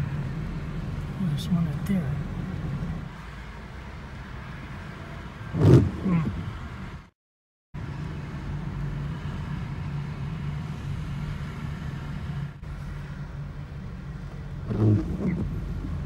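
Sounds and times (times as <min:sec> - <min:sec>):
car interior road noise: 0:00.0 - 0:07.1, 0:07.8 - 0:16.0.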